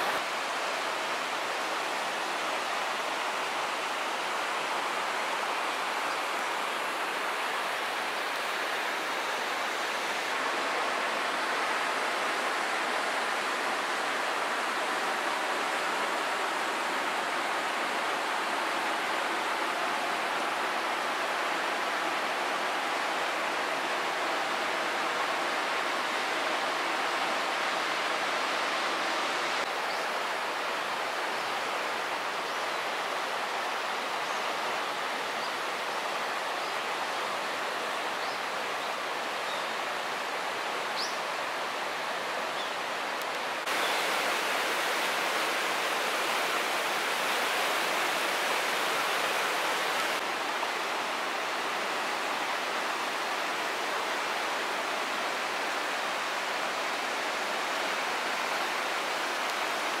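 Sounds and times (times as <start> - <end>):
river rapids rushing over rocks: 0.0 - 60.0.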